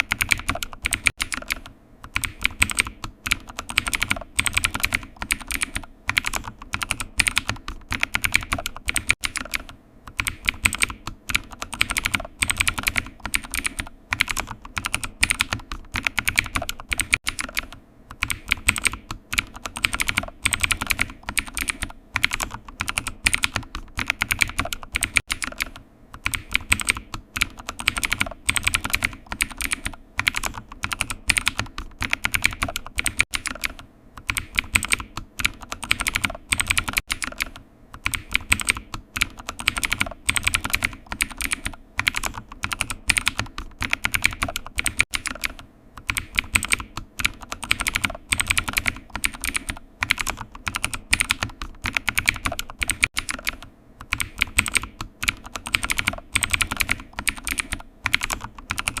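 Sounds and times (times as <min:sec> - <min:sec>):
keyboard typing: 0:00.0 - 0:59.0.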